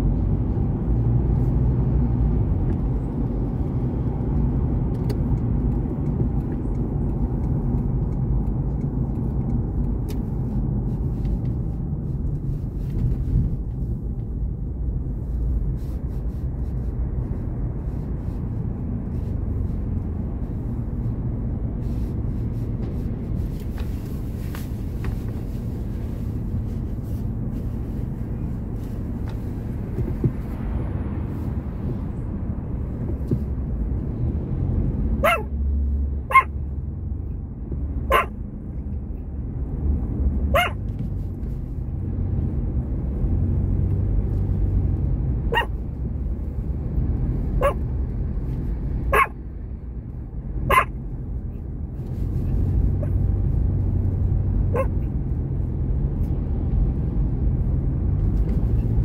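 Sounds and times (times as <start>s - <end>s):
car engine rumble from cabin: 0.0s - 59.0s
tyres on road: 0.0s - 59.0s.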